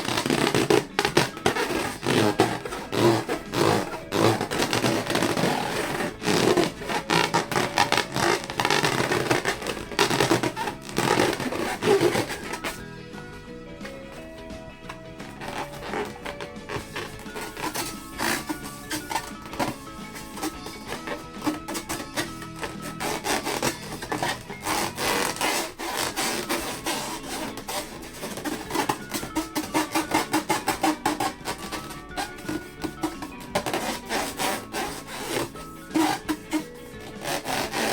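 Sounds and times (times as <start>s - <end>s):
hands rubbing rubber balloons: 0.0s - 37.9s.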